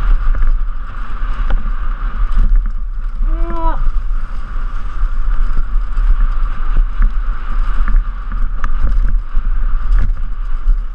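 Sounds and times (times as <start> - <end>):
bike knocking and rattling: 0.0 - 10.9
wind buffeting microphone: 0.0 - 10.9.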